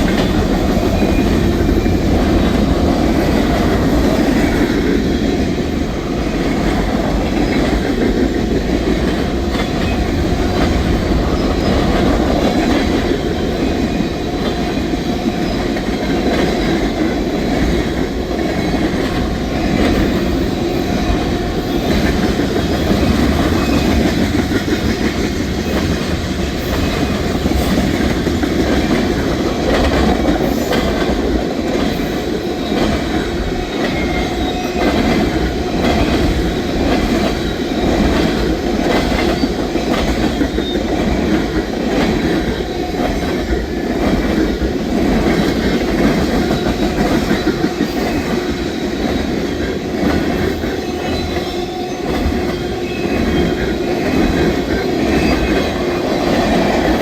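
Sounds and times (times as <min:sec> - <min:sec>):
train cars rumbling past: 0:00.0 - 0:57.0.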